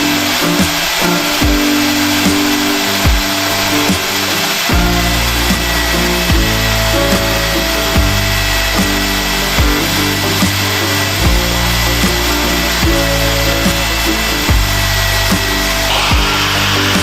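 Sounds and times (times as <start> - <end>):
background music with low bass: 0.0 - 17.0
steady hiss: 0.0 - 17.0.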